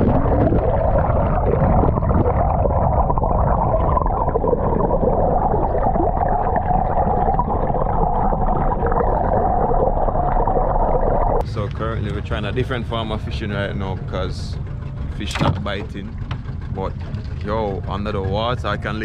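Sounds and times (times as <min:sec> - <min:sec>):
muffled underwater rumble: 0:00.0 - 0:19.0
steady droning hum: 0:00.0 - 0:19.0.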